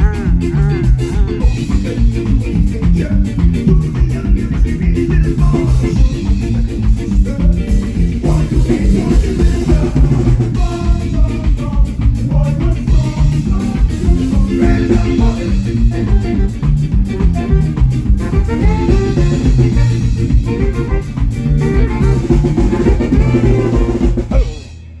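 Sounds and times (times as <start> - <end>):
drum kit beat with hi-hat: 0.0 - 25.0
ska band playing live: 0.0 - 25.0.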